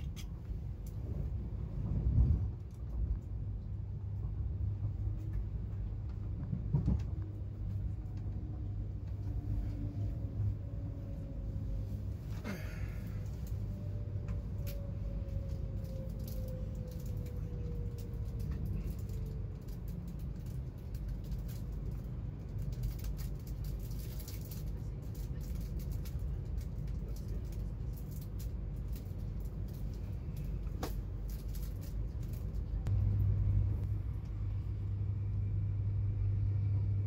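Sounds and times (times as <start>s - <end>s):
train wheels rumbling on rail: 0.0s - 35.6s.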